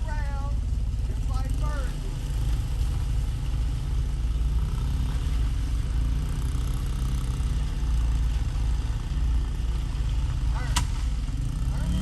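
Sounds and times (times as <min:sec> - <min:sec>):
vehicle engine low rumble: 0:00.0 - 0:12.0.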